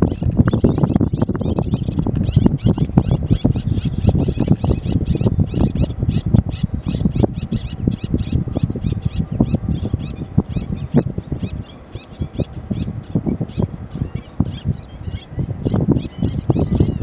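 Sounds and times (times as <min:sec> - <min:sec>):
birds chirping rapidly: 0:00.0 - 0:17.0.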